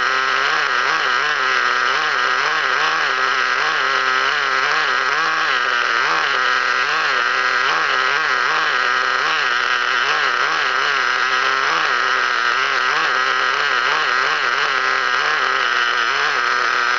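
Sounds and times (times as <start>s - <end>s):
model engine idling: 0.0s - 16.9s.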